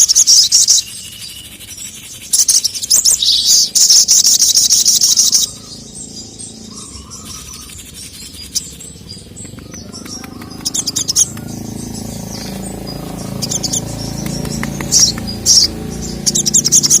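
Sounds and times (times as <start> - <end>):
bird high sharp chirps: 0.0 - 17.0.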